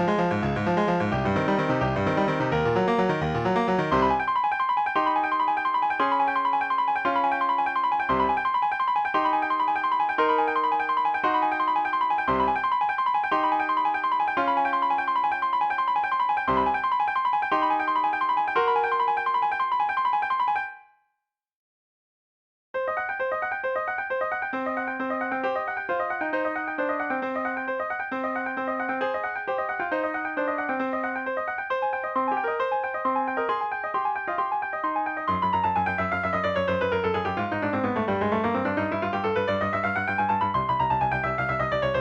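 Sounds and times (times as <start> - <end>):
piano music: 0.0 - 20.9, 22.8 - 42.0.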